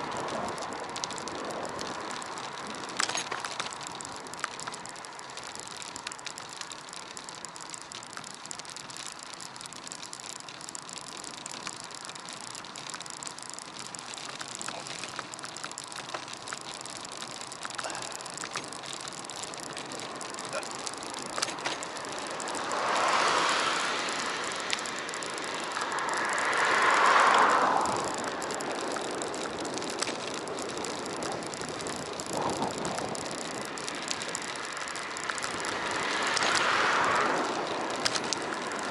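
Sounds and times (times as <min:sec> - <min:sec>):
bicycle rattles and clicks: 0:00.0 - 0:38.9
bicycle tyre and wind noise: 0:00.0 - 0:38.9.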